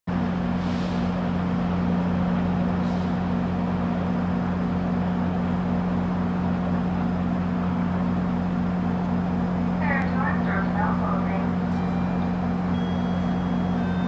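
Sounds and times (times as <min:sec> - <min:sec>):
train diesel engine idling: 0:00.1 - 0:14.0.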